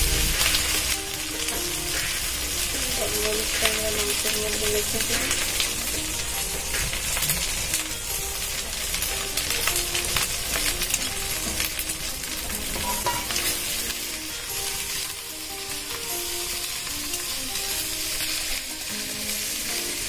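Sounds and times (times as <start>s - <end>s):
faint background melody: 0.0s - 20.0s
food sizzling in hot oil: 0.0s - 20.0s
stirring in a pan: 0.1s - 20.0s.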